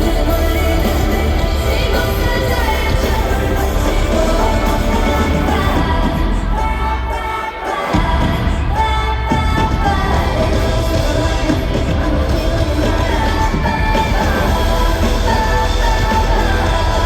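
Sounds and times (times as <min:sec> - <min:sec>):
pop song over loudspeakers: 0:00.0 - 0:17.0
women singing: 0:00.0 - 0:17.0.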